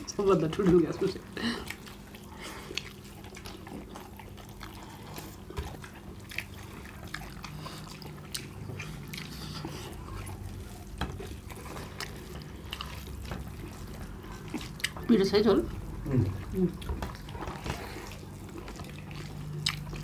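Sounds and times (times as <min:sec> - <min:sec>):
wet chewing sounds: 0:00.0 - 0:20.0.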